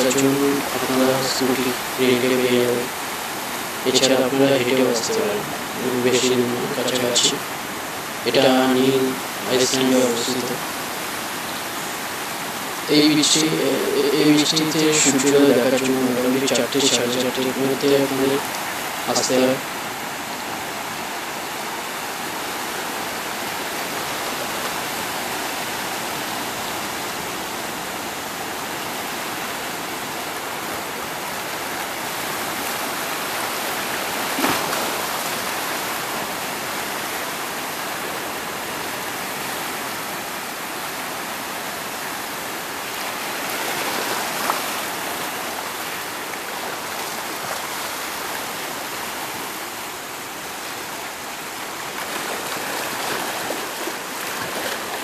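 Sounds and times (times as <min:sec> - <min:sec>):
sea waves washing over rocky shore: 0:00.0 - 0:55.0.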